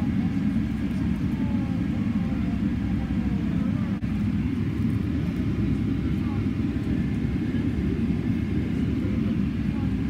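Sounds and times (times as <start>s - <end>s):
airplane cabin low rumble: 0.0s - 10.0s.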